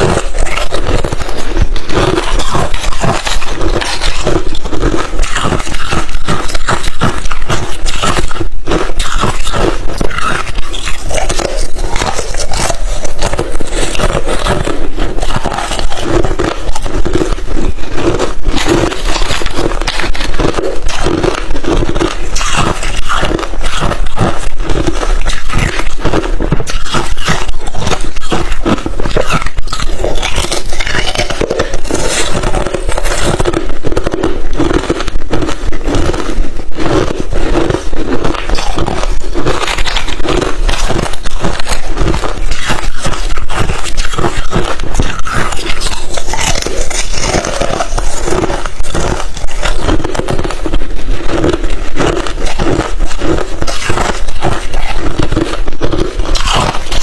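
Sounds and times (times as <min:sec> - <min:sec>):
person chewing ice chips: 0:00.0 - 0:57.0.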